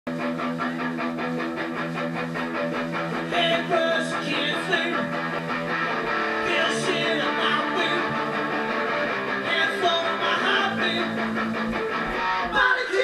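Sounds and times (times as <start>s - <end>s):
electric guitar chords: 0.1s - 13.0s
punk band playing live: 0.1s - 13.0s.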